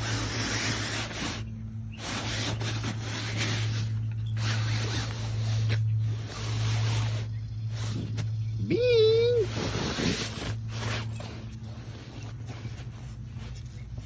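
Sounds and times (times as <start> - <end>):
fabric rustling and scraping on concrete: 0.0 - 8.5, 9.4 - 14.0
steady low hum: 0.0 - 14.0.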